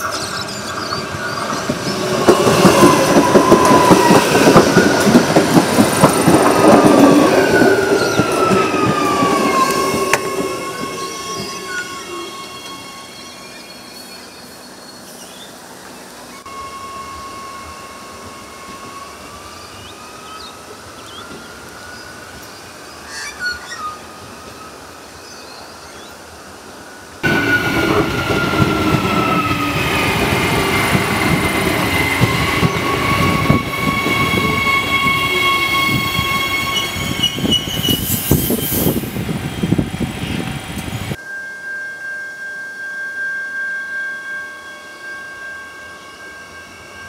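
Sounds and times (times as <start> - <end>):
train wheel squeal: 0.0 - 26.1, 27.2 - 47.0
train rumbling past: 0.0 - 41.2
electric train whine: 0.0 - 47.0.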